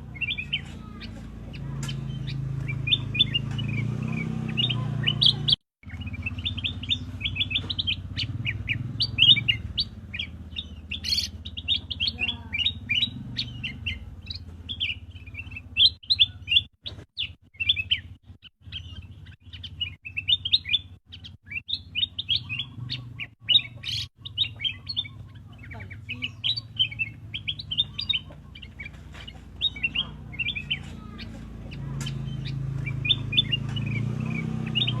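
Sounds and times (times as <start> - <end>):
bird chirping: 0.0 - 35.0.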